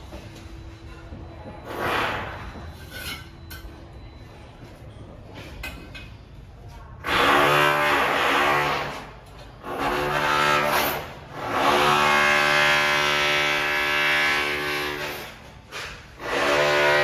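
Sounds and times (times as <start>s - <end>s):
low building site background: 0.0s - 17.0s.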